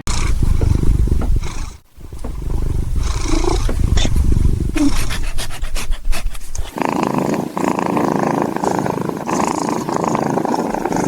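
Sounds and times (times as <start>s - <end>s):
puppy growling: 0.0s - 11.0s.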